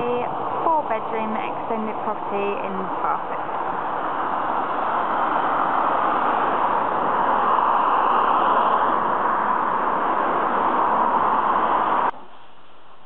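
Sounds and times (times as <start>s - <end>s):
road traffic rushing: 0.0s - 12.3s.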